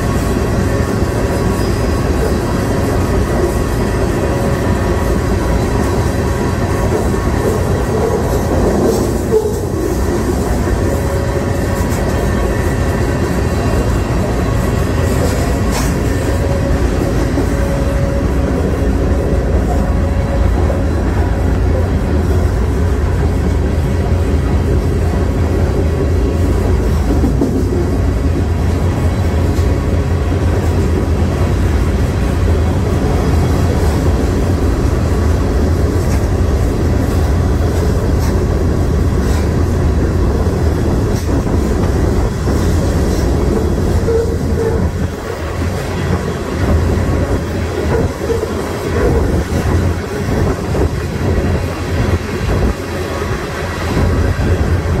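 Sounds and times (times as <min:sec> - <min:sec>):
rumble of wheels on rail: 0:00.0 - 0:55.0.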